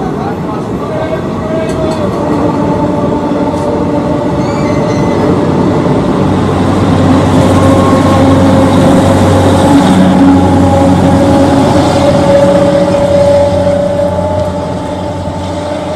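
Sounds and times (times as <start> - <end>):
rail noise: 0.0 - 15.9
train engine hum: 0.0 - 15.9.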